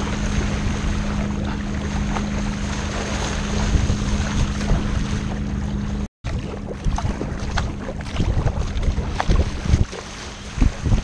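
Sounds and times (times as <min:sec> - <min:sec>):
paddle splashes: 0:00.0 - 0:11.0
water rushing against kayak hull: 0:00.0 - 0:11.0
wind buffeting microphone: 0:00.0 - 0:11.0.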